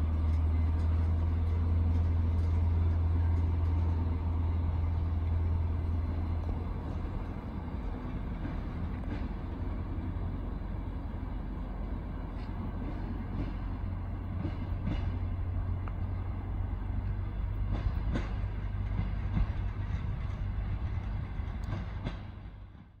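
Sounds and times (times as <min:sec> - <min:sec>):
diesel train rumble: 0:00.0 - 0:23.0
wheels clicking over rail joints: 0:00.0 - 0:23.0.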